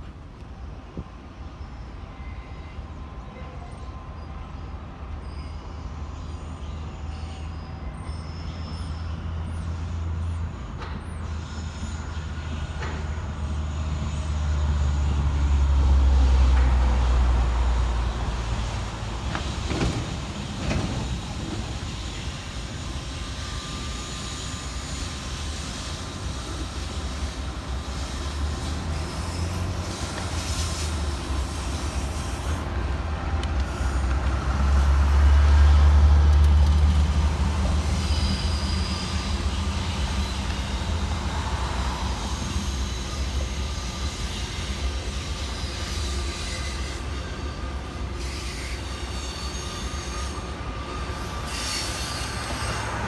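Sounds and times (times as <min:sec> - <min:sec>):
diesel locomotive engine rumble: 0:00.0 - 0:53.0.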